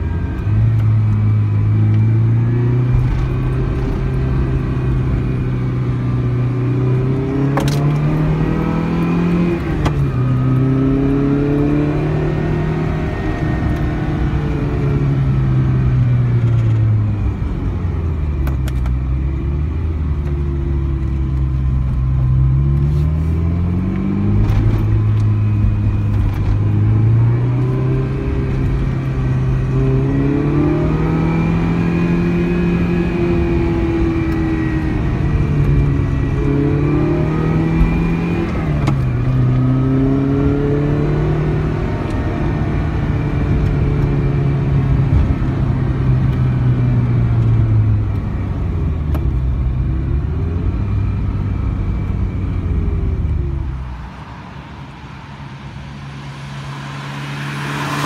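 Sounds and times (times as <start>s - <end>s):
car engine pulling through gears: 0.0s - 58.0s.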